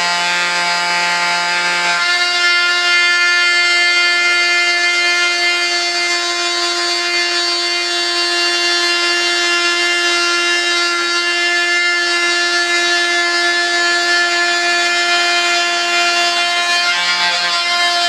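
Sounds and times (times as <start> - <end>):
rotary tool whining while cutting: 0.0 - 18.0.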